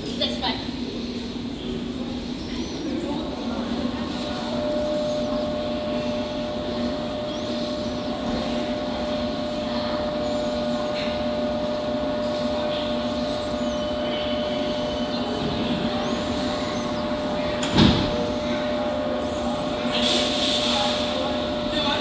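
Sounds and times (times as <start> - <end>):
train equipment hum: 0.0 - 22.0.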